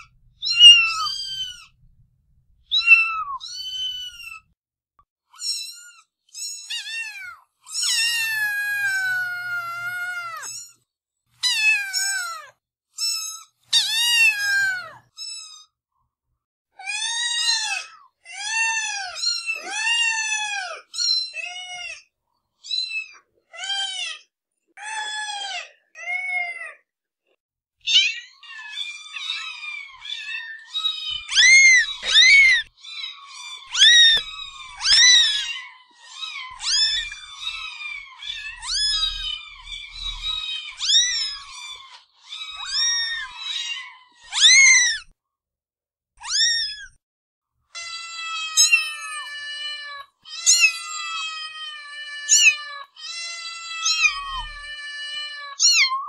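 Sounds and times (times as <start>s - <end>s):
cats meowing: 0.0s - 2.0s, 2.6s - 4.6s, 5.4s - 10.8s, 11.4s - 15.7s, 16.8s - 26.8s, 27.9s - 45.2s, 46.2s - 47.0s, 47.8s - 56.0s.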